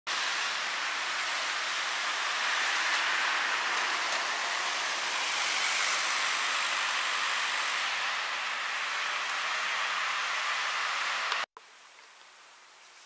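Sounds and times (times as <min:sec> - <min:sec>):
steady hiss: 0:00.1 - 0:13.0.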